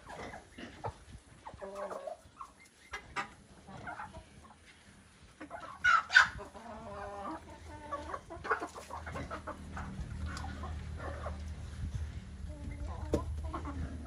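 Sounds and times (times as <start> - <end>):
chicken calls: 0.0 - 14.0
chickens clucking: 0.0 - 14.0.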